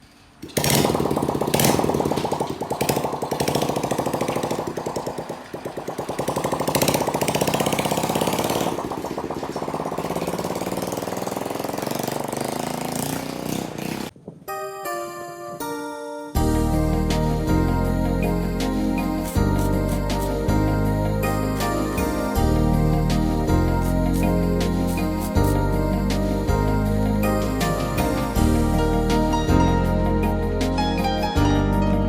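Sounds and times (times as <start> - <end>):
motor running with pulsing beat: 0.6 - 14.1, 16.4 - 30.8.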